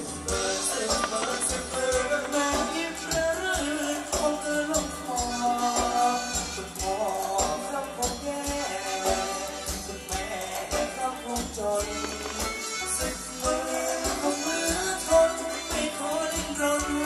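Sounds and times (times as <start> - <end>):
busy percussion: 0.0 - 17.0
live band playing dance music: 0.0 - 17.0
steady drum beat: 0.0 - 17.0.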